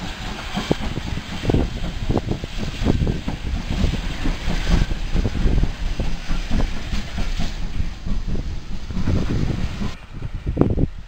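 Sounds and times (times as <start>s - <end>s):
locomotive wheels knocking and clanking: 0.0s - 10.0s
steady rushing noise: 0.0s - 11.0s.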